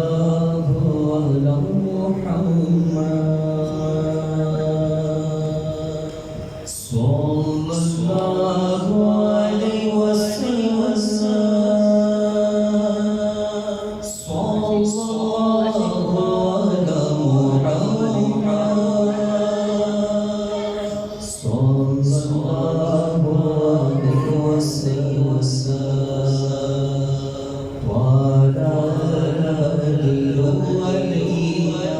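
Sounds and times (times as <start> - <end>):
man chanting: 0.0 - 31.9.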